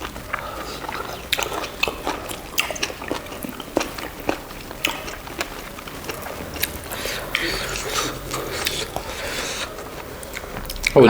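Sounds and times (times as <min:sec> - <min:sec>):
mouth smacks and clicks: 0:00.0 - 0:11.0
wet chewing sounds: 0:00.0 - 0:11.0.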